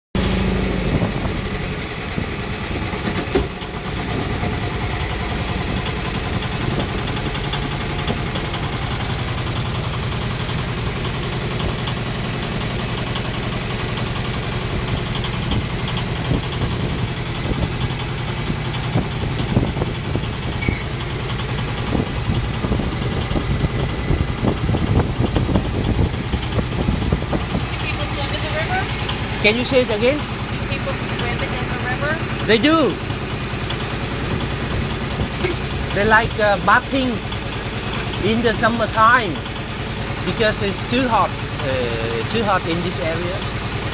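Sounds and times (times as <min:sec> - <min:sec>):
boat engine humming: 0:00.2 - 0:43.9
wind: 0:00.2 - 0:43.9.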